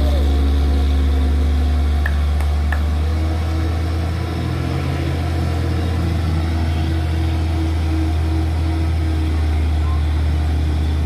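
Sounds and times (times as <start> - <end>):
diesel truck engine straining: 0.0 - 11.0.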